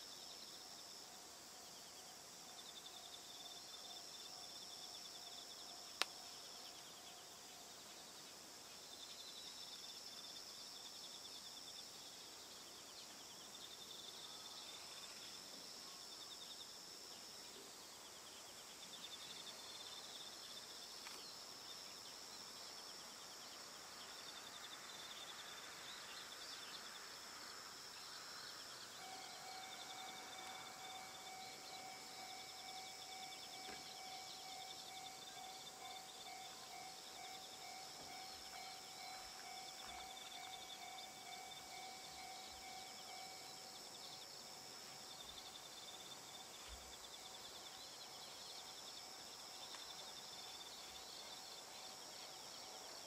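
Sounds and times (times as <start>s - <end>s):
faint steady tone: 0.0s - 53.0s
insects chirring and trilling: 0.0s - 53.0s.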